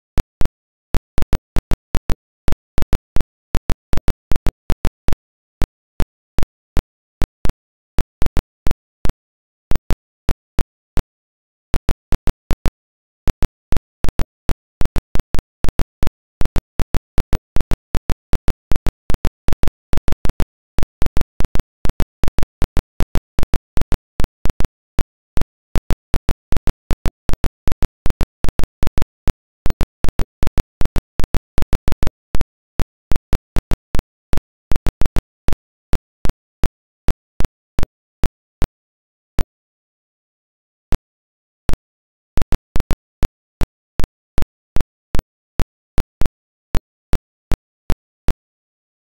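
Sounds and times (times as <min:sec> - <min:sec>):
sharp clicks and pops: 0:00.0 - 0:38.7, 0:42.4 - 0:48.4.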